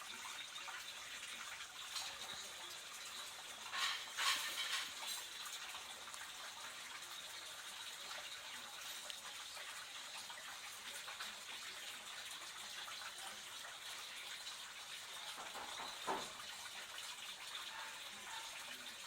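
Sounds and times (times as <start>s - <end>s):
water trickling in stream: 0.0s - 19.0s.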